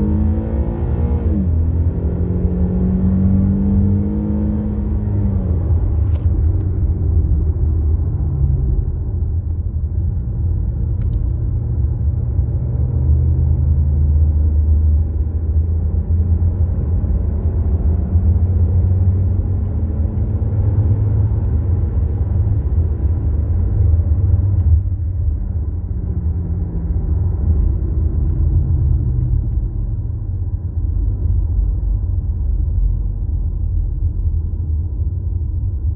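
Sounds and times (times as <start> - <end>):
car cabin engine and tyre rumble: 0.0 - 35.9.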